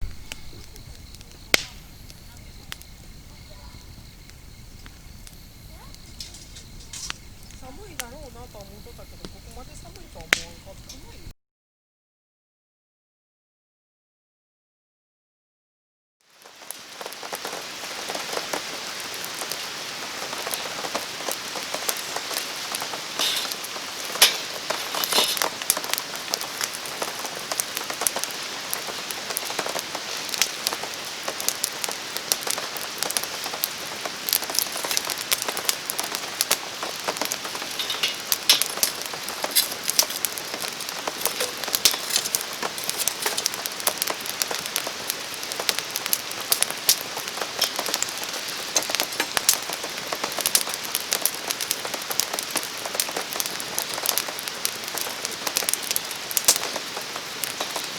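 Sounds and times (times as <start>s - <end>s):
campfire crackling: 0.0s - 11.3s, 16.2s - 57.9s
rain drops ticking: 0.0s - 11.3s, 16.3s - 57.9s.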